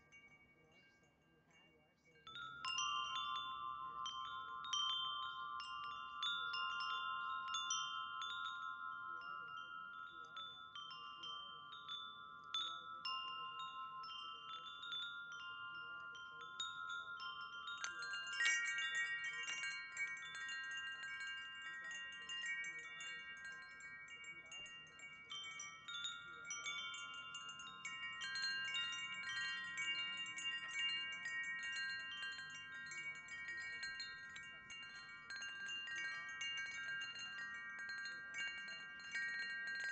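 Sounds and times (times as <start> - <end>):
higher-pitched chimes: 0.0 - 39.9
wind chimes ringing: 0.0 - 39.9.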